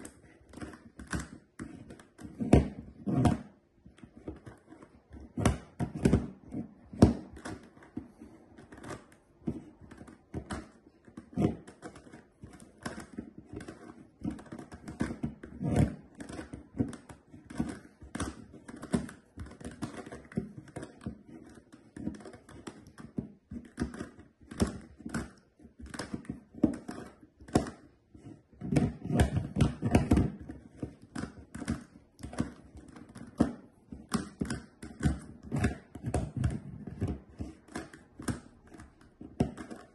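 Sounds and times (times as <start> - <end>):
puzzle cube faces clicking: 0.0 - 39.9.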